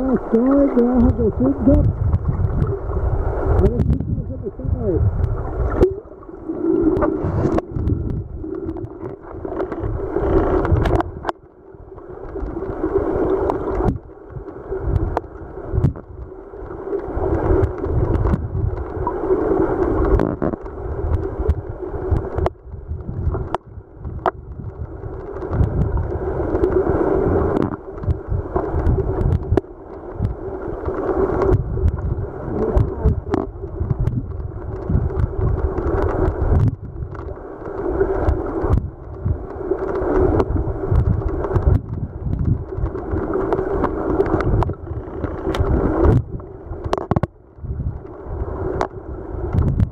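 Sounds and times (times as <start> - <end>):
muffled underwater stream rush: 0.0 - 49.9.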